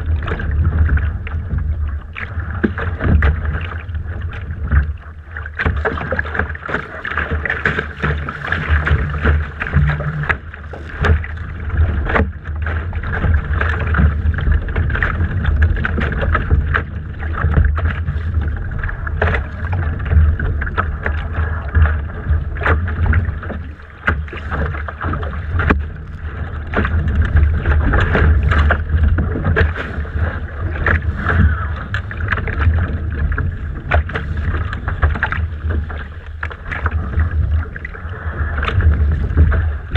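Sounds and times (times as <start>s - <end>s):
low wind rumble: 0.0s - 39.9s
water slapping against hull: 0.0s - 39.9s.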